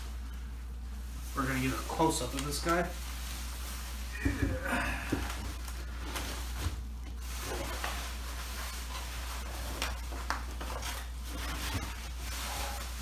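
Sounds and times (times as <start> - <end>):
rubbing and handling noises: 0.0 - 13.0
steady low hum: 0.0 - 13.0.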